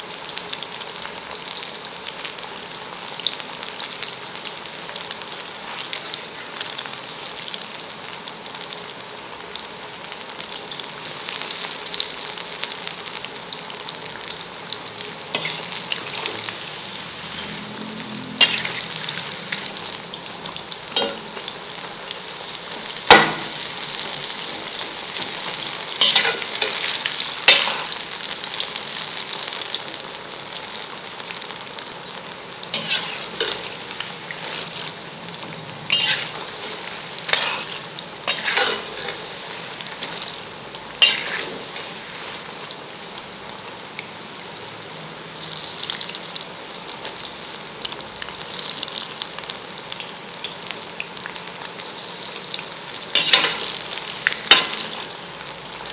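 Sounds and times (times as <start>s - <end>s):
oil bubbling sizzle: 0.0s - 55.9s.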